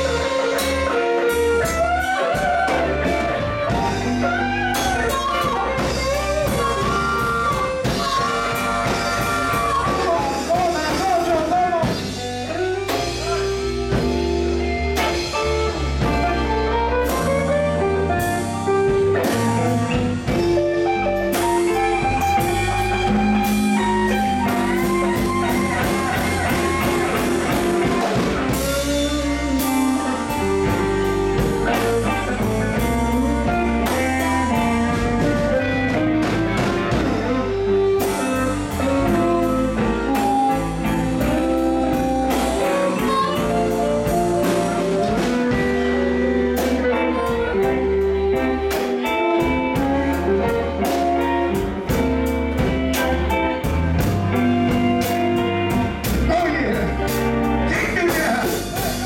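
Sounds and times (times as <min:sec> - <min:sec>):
bass: 0:00.0 - 0:59.0
drum kit: 0:00.0 - 0:59.0
electric guitar lines: 0:00.0 - 0:59.0.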